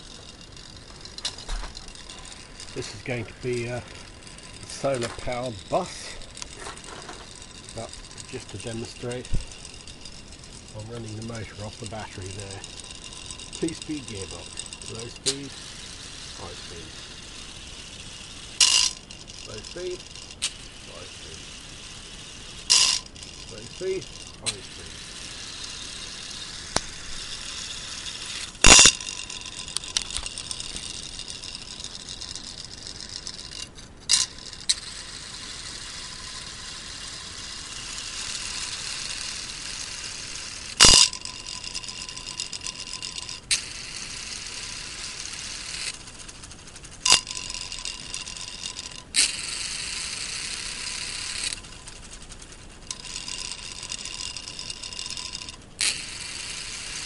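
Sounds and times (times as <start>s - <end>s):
gears whirring: 0.0s - 57.0s.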